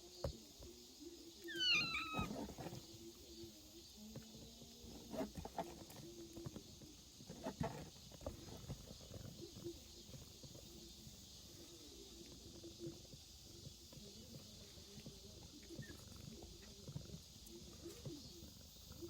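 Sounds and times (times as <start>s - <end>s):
faint rustling: 0.2s - 19.0s.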